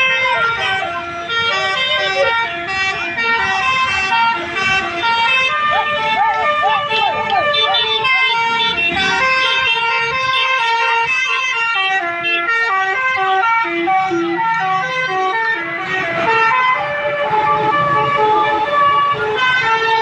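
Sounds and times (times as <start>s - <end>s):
multi-tone bus air horn tune: 0.0s - 20.0s.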